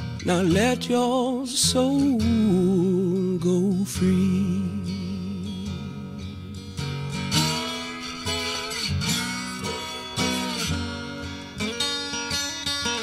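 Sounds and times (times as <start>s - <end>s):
guitar chords ringing: 0.0s - 13.0s.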